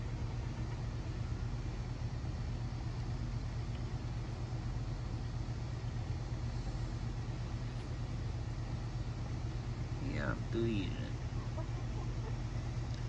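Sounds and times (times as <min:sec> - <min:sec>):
constant rumbling: 0:00.0 - 0:13.0
low hum: 0:00.0 - 0:13.0.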